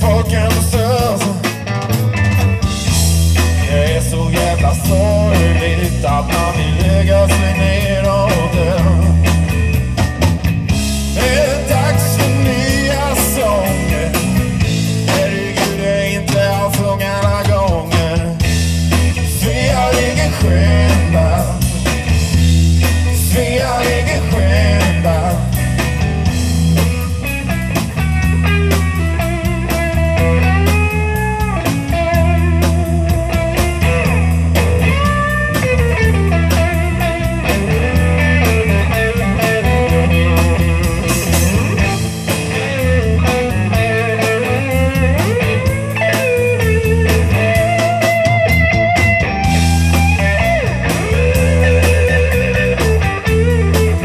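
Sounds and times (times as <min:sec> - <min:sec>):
bass: 0:00.0 - 0:54.0
drums: 0:00.0 - 0:54.0
electric guitar with bent notes: 0:00.0 - 0:54.0.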